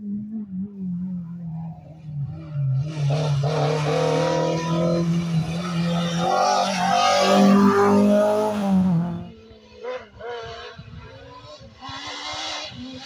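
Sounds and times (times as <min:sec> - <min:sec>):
rally car engine revving past: 0:00.8 - 0:13.0.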